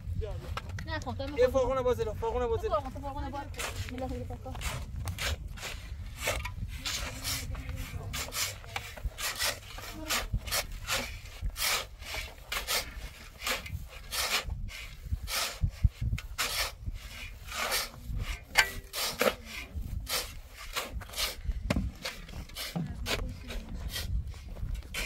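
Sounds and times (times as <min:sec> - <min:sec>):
shovels scraping sand and cement: 0:03.3 - 0:25.0.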